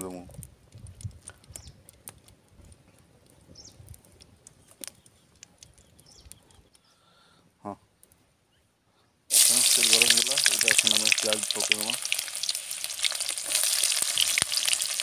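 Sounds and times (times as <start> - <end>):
wood fire crackling and ticking: 0.0 - 6.9, 9.3 - 15.0.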